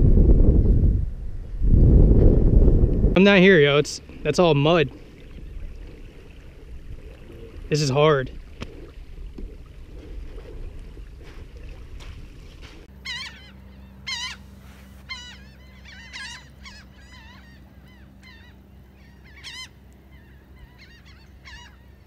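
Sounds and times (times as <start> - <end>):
birds calling: 3.2 - 22.0.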